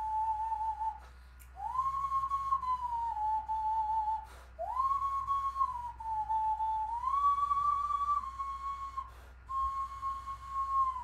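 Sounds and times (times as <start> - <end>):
hand whistling tune: 0.0 - 11.0.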